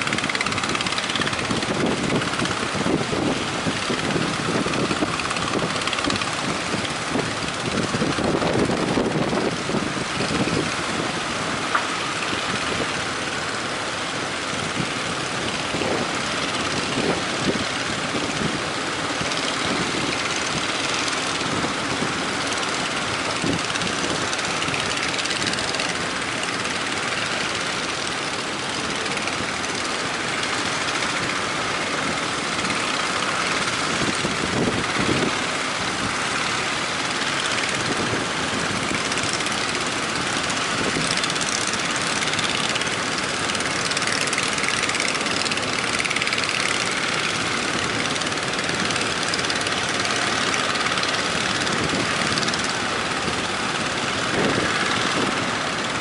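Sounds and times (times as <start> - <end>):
sea waves breaking: 0.0 - 56.0
strong wind: 0.0 - 56.0.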